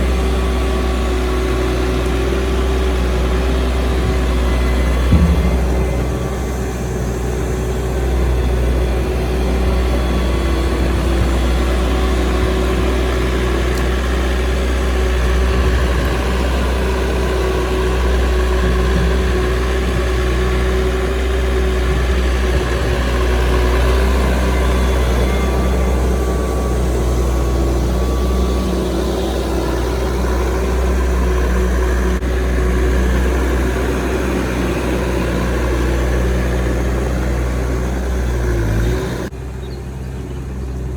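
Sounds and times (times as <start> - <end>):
heavy machinery engine running: 0.0 - 40.9.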